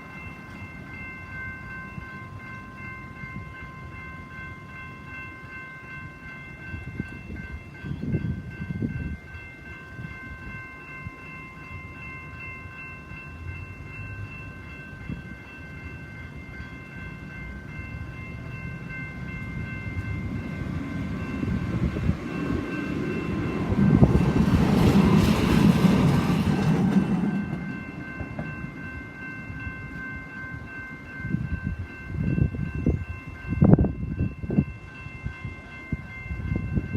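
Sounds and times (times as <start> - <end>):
level crossing bells ringing: 0.0 - 36.9
tram rumbling past: 0.0 - 36.9.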